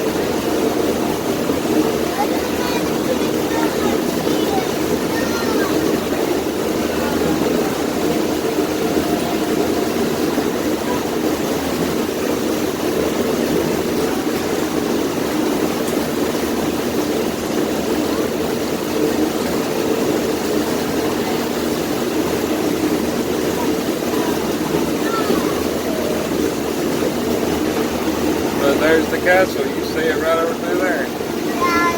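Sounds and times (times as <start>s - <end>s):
boat engine droning: 0.0s - 31.9s
water noise: 0.0s - 31.9s.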